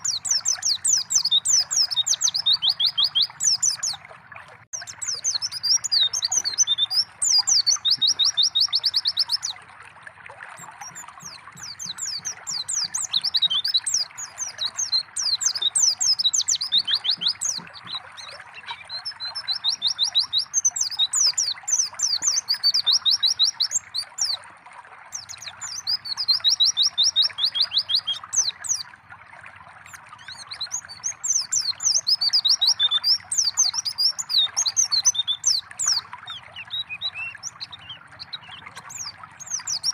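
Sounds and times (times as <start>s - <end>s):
bird singing high chirps and trills: 0.0s - 4.1s, 4.7s - 9.6s, 10.5s - 24.4s, 25.1s - 29.0s, 29.8s - 39.9s
trickling water: 0.0s - 39.9s.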